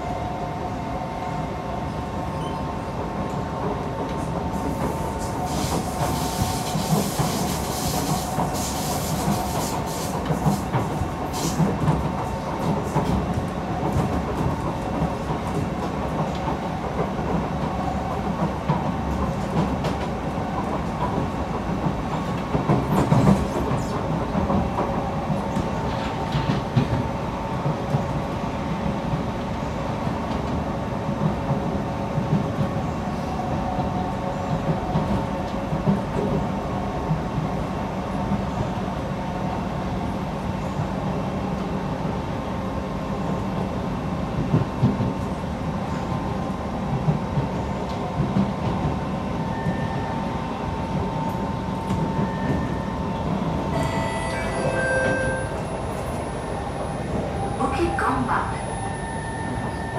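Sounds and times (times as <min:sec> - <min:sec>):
train wheels rumbling on rail: 0:00.0 - 0:59.9
loud train clatter: 0:02.3 - 0:59.9.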